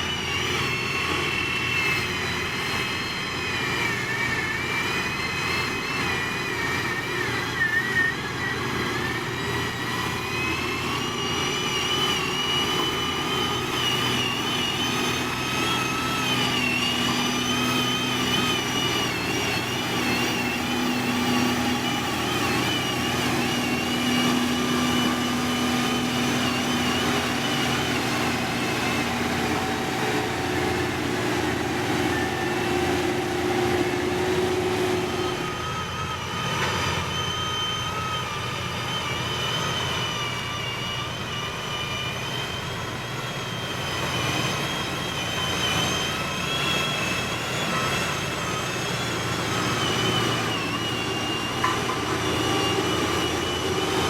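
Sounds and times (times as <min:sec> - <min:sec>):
heavy machinery engine running: 0:00.0 - 0:54.0
high wavering whine: 0:00.0 - 0:54.0.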